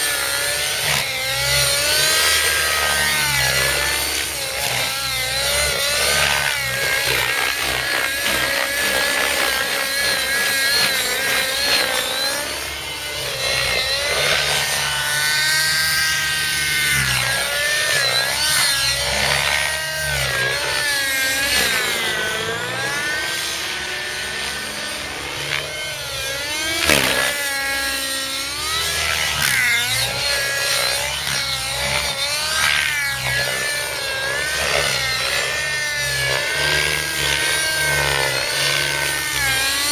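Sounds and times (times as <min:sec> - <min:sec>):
model helicopter engine and rotor whine: 0:00.0 - 0:39.9.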